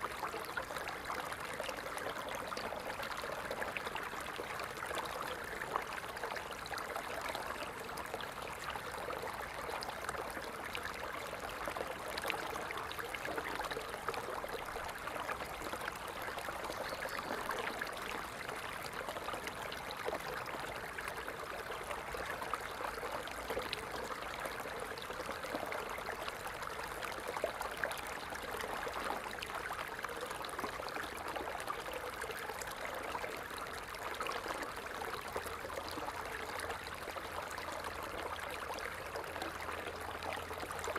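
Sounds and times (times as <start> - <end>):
water splashing and trickling: 0.0 - 40.9.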